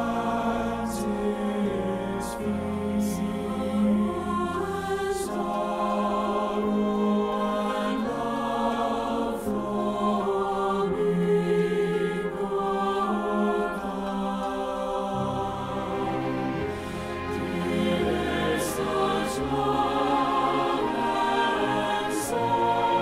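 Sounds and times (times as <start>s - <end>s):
choir singing a hymn: 0.0s - 23.0s
piano accompaniment: 0.0s - 23.0s.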